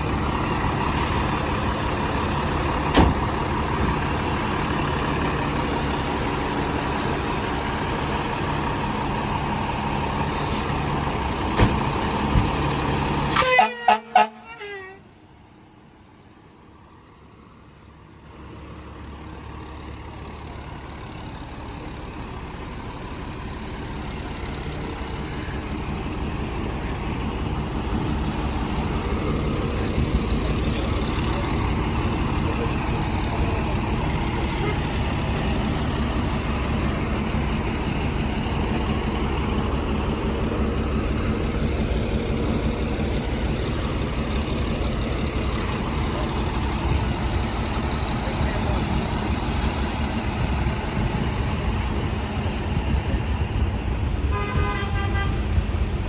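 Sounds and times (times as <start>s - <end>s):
fire engine diesel engine running: 0.0s - 56.0s.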